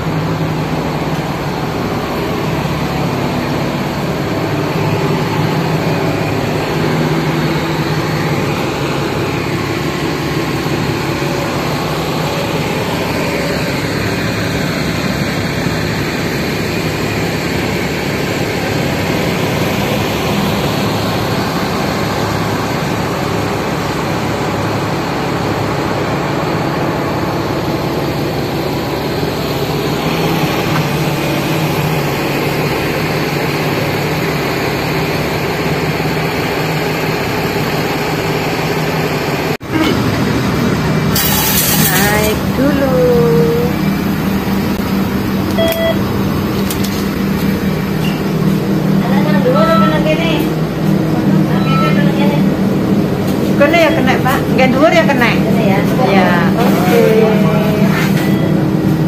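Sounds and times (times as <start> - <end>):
bus engines idling: 0.0 - 59.0.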